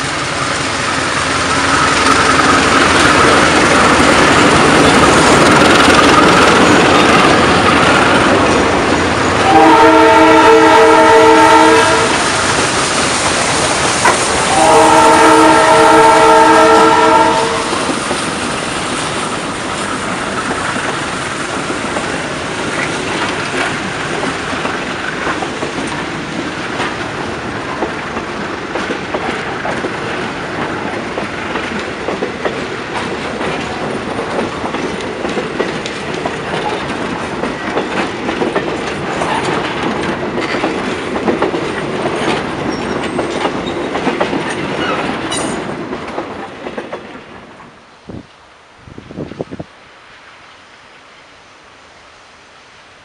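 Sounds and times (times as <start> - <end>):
train wheels clicking over rail joints: 0.0 - 47.8.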